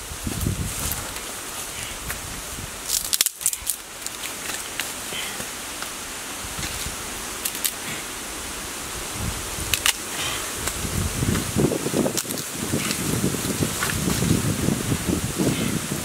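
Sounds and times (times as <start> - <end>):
fire hissing: 0.0 - 16.0
sticks and leaves rustling: 0.0 - 16.0.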